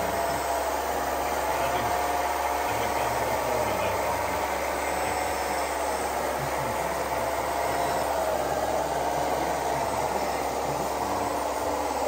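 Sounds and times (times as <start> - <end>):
model truck motors humming: 0.0 - 12.0.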